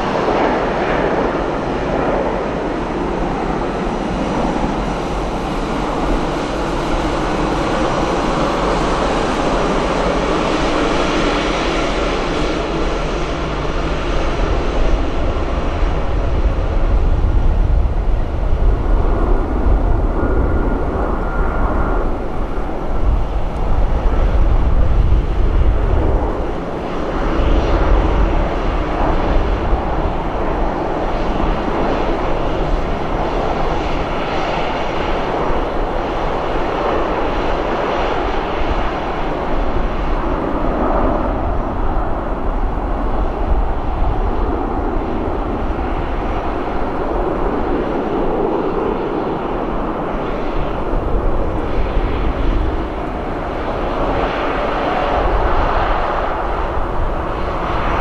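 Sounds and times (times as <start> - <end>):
jet engines droning: 0.0 - 58.0.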